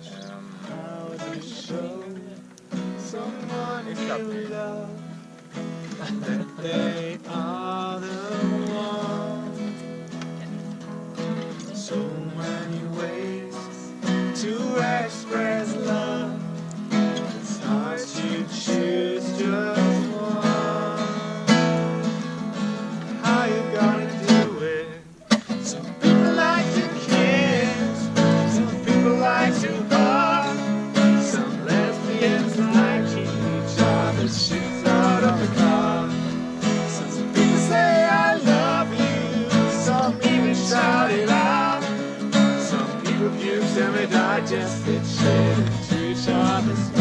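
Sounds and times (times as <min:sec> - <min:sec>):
person singing: 0:00.0 - 0:05.2, 0:06.0 - 0:09.8, 0:11.5 - 0:21.7, 0:23.1 - 0:47.0
acoustic guitar strumming: 0:00.0 - 0:47.0.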